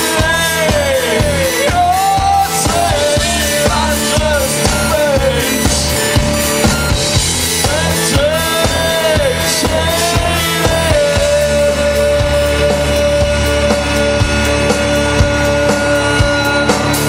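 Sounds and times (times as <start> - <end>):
pitch-bending melody line: 0.0 - 17.0
rock music with drums and bass: 0.0 - 17.0.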